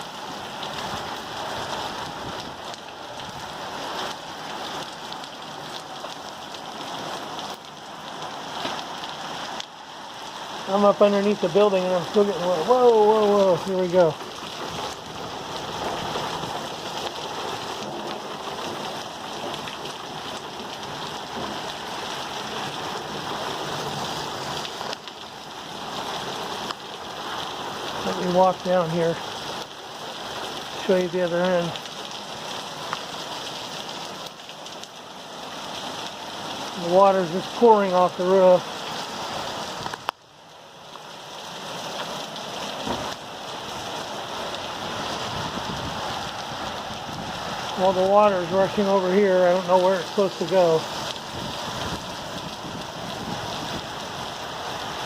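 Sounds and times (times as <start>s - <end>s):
heavy rain splashing on ground: 0.0s - 55.0s
water pouring off roof: 0.0s - 55.0s.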